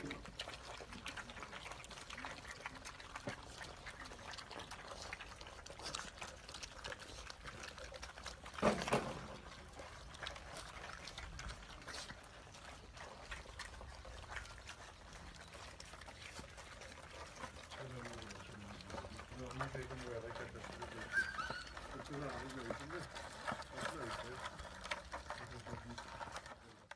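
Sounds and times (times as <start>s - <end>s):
puppies chewing and lapping: 0.0s - 26.9s.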